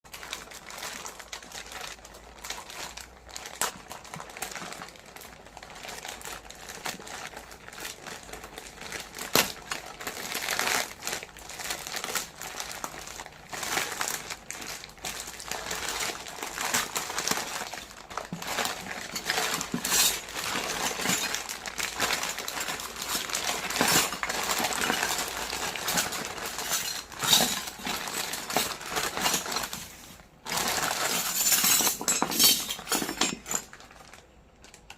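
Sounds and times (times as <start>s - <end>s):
plastic packaging crinkling: 0.1s - 34.9s.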